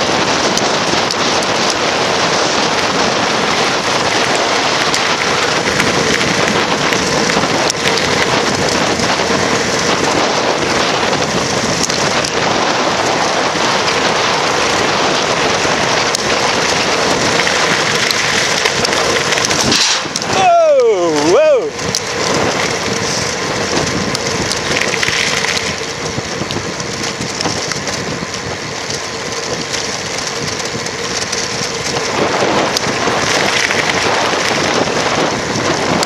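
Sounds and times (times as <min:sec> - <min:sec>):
bicycle tyres on rough tarmac: 0:00.0 - 0:36.0
wind over microphone: 0:00.0 - 0:36.0.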